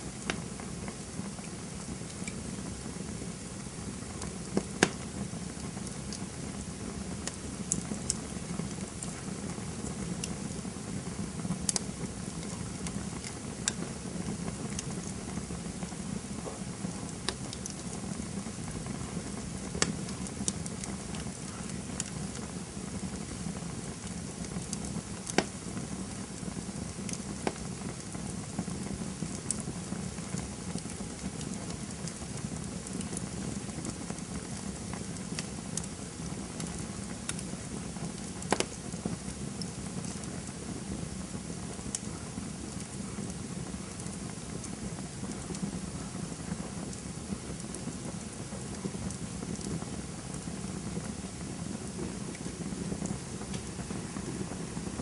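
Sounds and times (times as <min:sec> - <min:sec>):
burning wood crackling: 0:00.0 - 0:55.0
low rush of flames: 0:00.0 - 0:55.0.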